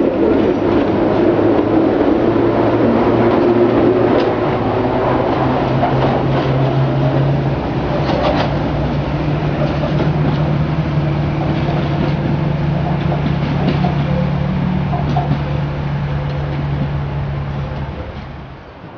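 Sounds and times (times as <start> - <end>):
electric train pulling away: 0.0 - 18.9.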